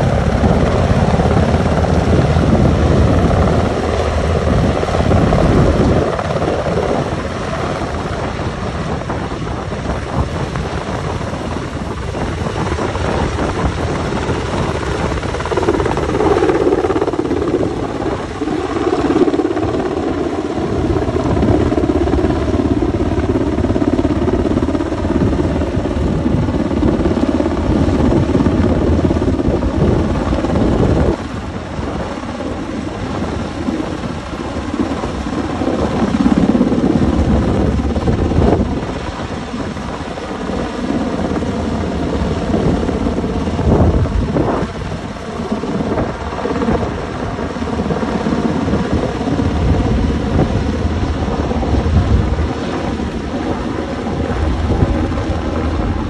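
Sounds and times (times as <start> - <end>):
helicopter rotor and turbine noise: 0.0 - 56.0.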